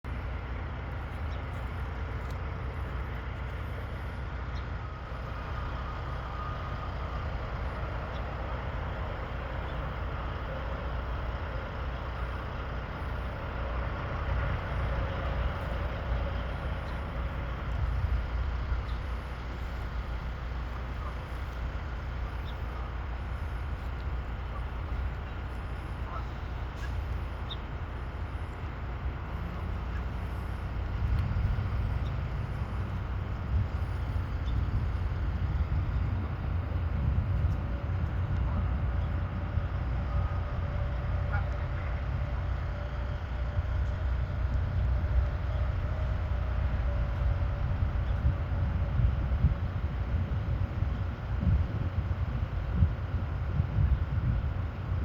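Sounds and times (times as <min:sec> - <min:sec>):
outdoor background rumble and hiss: 0:00.0 - 0:55.0.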